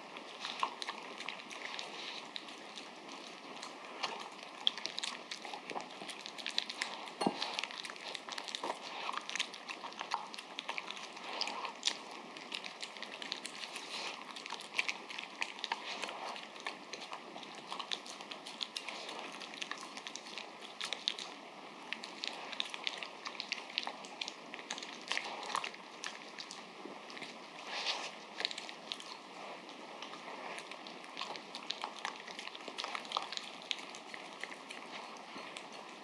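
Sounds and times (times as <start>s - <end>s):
dog chewing: 0.0s - 36.0s.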